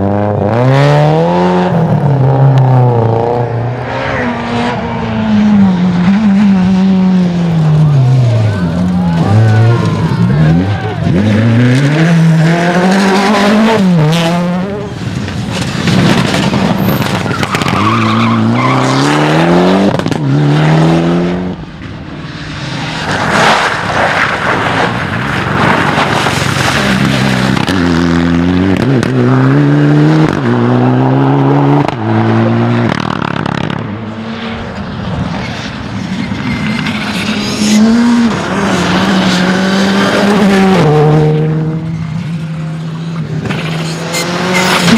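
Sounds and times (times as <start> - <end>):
rally car engines accelerating: 0.0 - 44.9
tyre and road noise: 0.0 - 44.9.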